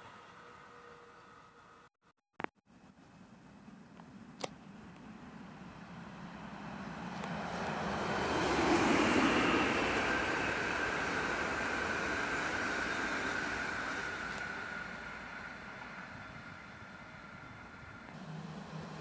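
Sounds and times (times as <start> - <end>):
electric train passing: 0.0 - 1.9, 5.5 - 19.0.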